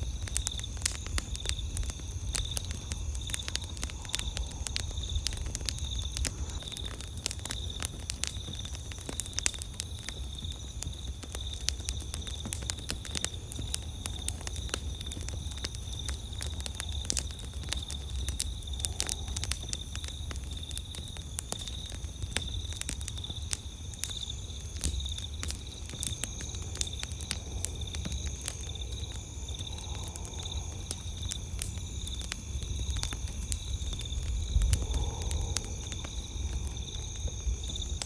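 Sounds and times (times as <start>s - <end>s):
campfire crackling and popping: 0.0s - 38.0s
night insects chirring: 0.0s - 38.0s.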